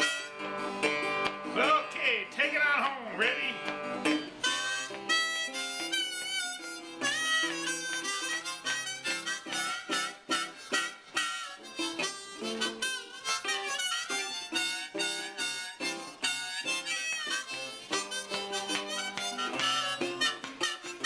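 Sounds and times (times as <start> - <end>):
blues harmonica: 0.0 - 21.0
strummed guitar: 0.0 - 21.0.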